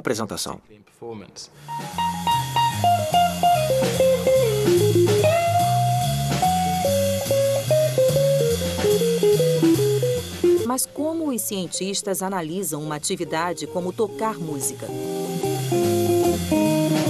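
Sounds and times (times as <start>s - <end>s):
drum kit keeping time: 1.6s - 17.0s
electric guitar melody: 1.6s - 17.0s
bass line: 1.7s - 11.4s, 12.8s - 17.0s.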